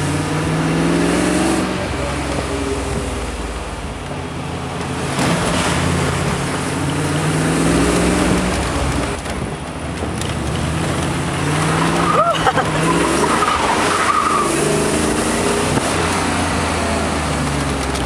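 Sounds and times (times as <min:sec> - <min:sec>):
car engine accelerating: 0:00.0 - 0:18.0
wind and road noise: 0:00.0 - 0:18.0.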